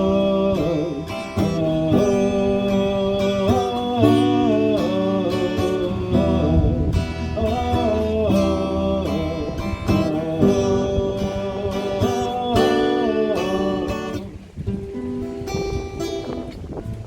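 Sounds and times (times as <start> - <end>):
guitar over sustained accompaniment: 0.0 - 17.0.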